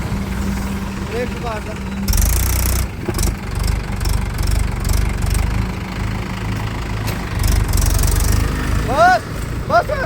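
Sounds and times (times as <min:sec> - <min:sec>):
tractor diesel engine running hard: 0:00.0 - 0:10.0.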